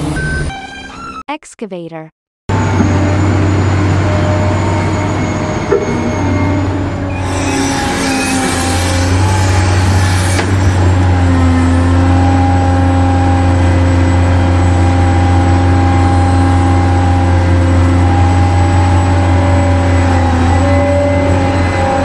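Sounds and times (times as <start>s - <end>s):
excavator diesel engine humming: 2.5s - 22.0s.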